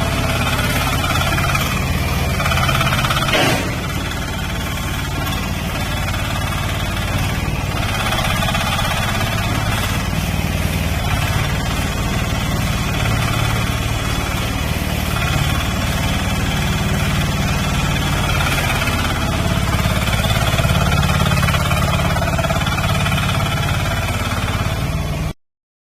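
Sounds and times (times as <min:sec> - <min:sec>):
tracked dumper engine running: 0:00.0 - 0:25.4.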